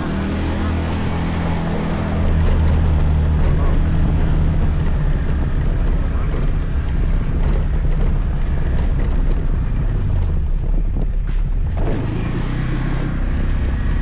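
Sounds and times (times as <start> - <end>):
road and wind noise: 0.0 - 14.0
scooter engine humming: 0.0 - 14.0.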